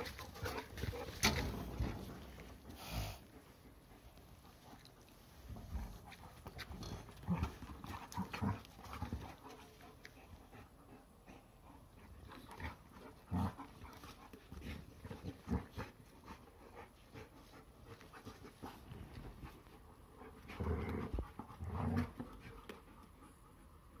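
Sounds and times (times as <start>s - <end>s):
dogs panting: 0.0s - 24.0s.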